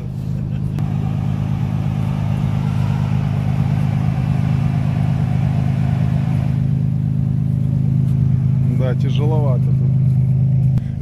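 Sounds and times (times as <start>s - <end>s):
suv engine running under load: 0.0s - 11.0s
churning of tyres in snow: 0.8s - 10.8s.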